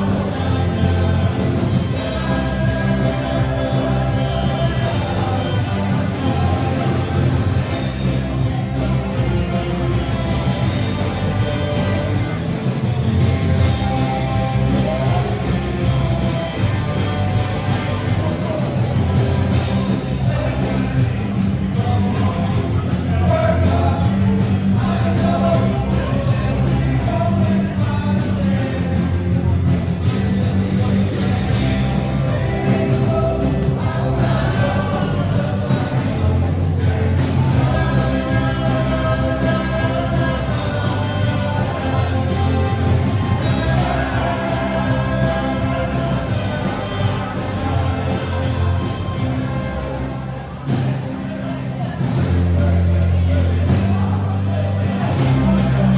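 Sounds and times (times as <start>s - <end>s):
person singing: 0.0s - 55.9s
rock band playing live: 0.0s - 55.9s.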